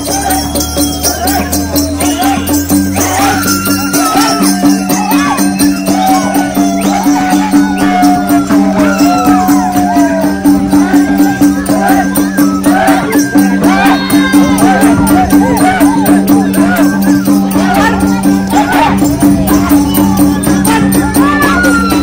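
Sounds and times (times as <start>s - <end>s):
folk dance music: 0.0s - 22.0s
rattling percussion: 0.0s - 22.0s
wavering melody: 0.0s - 22.0s.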